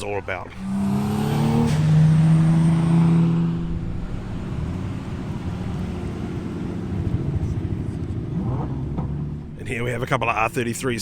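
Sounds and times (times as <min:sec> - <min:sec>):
car engine revving: 0:00.4 - 0:09.9.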